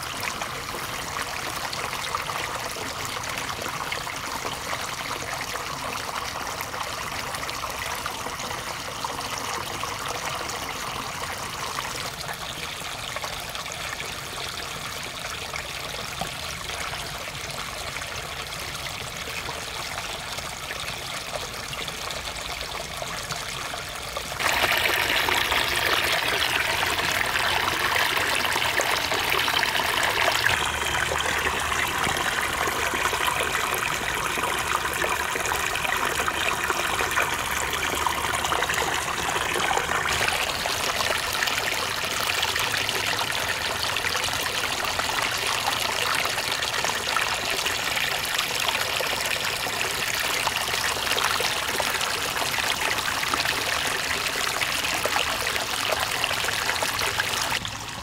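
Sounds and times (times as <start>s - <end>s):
water trickling over rock: 0.0s - 58.0s.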